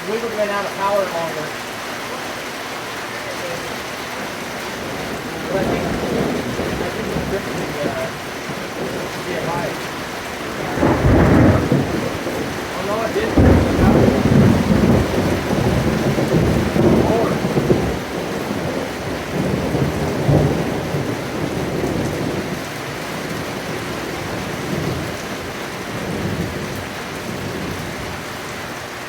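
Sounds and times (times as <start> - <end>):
thunder rumbling: 0.0 - 28.4
heavy rain falling: 0.0 - 29.0.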